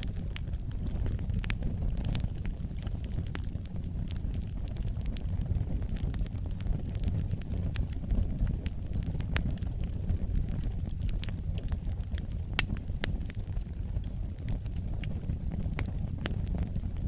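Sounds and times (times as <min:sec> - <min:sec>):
campfire wood crackling: 0:00.0 - 0:17.0
low fire rumble: 0:00.0 - 0:17.0.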